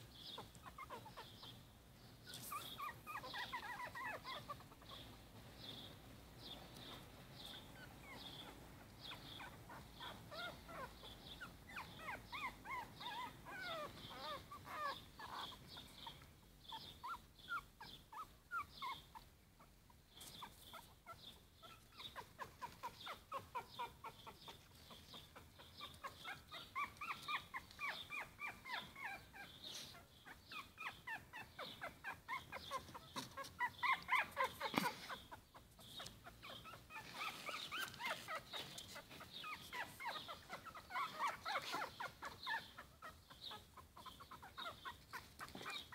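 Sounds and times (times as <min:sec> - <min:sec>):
puppies squeaking and whimpering: 0:00.2 - 0:01.6, 0:02.2 - 0:05.2, 0:06.4 - 0:45.9.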